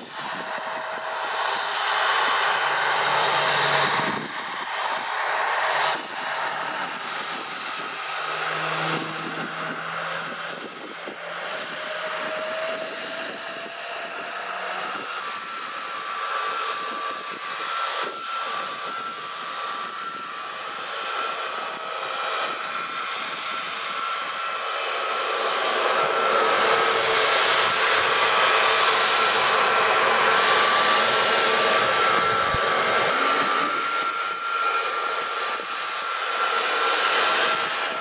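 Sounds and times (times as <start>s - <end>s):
jet turbine whine: 0.0s - 38.0s.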